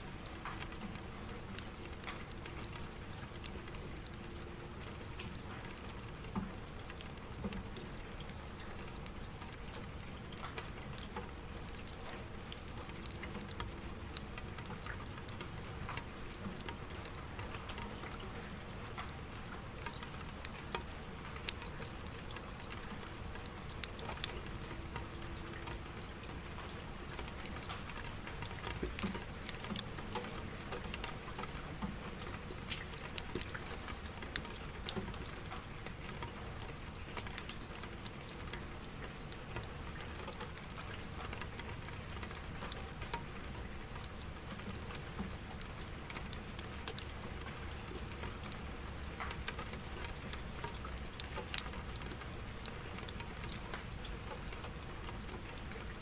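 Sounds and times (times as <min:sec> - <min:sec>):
sharp taps of raindrops: 0:00.0 - 0:56.0
steady rain falling: 0:00.0 - 0:56.0.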